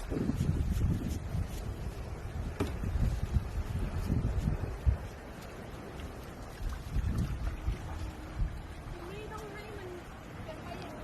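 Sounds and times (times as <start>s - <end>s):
sea water rumbling: 0.0s - 11.0s
wind: 0.0s - 11.0s.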